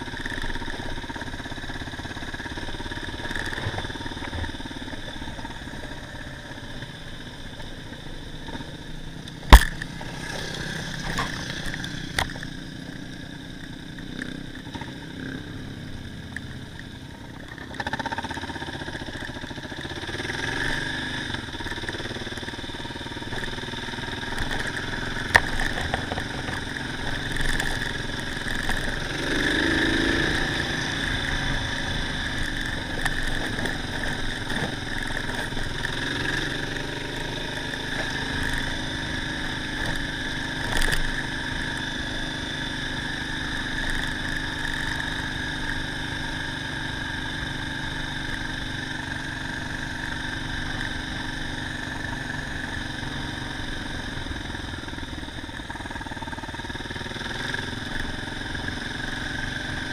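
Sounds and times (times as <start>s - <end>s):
motorcycle engine running: 0.0s - 59.9s
tyre road noise: 0.0s - 59.9s.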